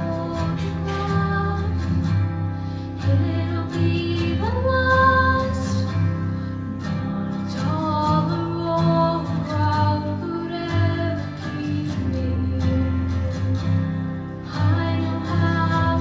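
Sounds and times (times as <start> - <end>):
young woman singing: 0.0 - 13.8, 14.4 - 16.0.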